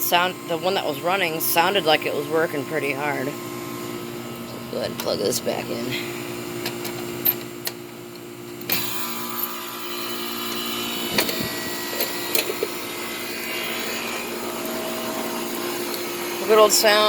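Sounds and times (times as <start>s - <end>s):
air conditioner compressor and fan: 0.0s - 17.0s
air conditioner unit hum: 0.0s - 17.0s.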